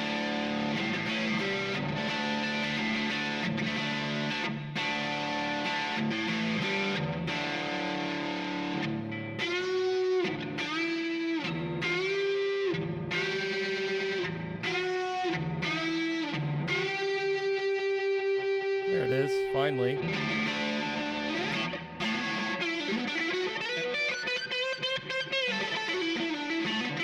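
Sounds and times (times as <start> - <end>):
overdriven electric guitar: 0.0 - 27.0.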